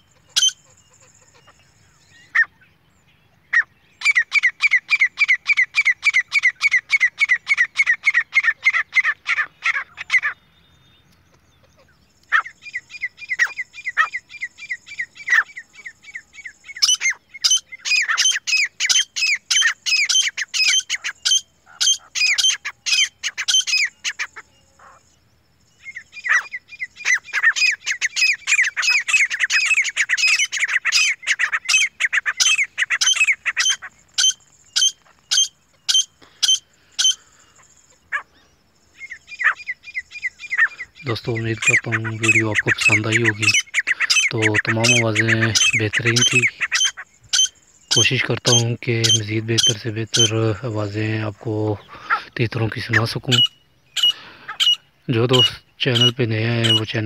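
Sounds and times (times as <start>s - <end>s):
francolins calling shrilly: 0.0s - 57.0s.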